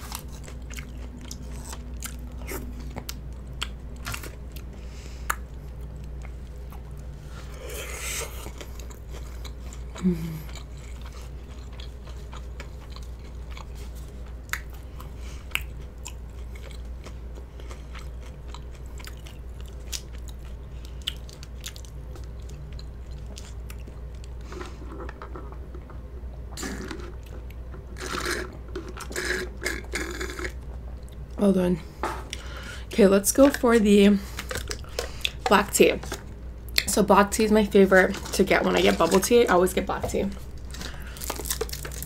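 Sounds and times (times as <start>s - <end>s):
person chewing rice cake: 0.0s - 31.4s, 34.3s - 35.5s, 40.4s - 42.0s.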